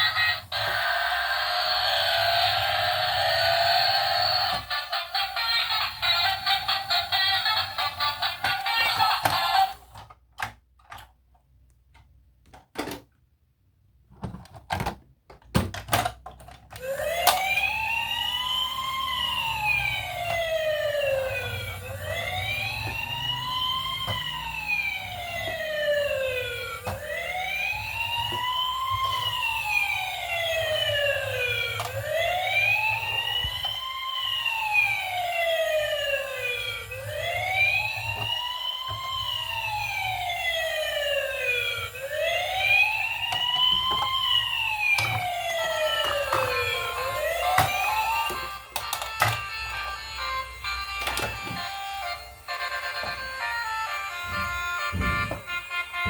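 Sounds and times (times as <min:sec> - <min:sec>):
toy siren wailing: 0:00.0 - 0:09.9, 0:16.8 - 0:56.0.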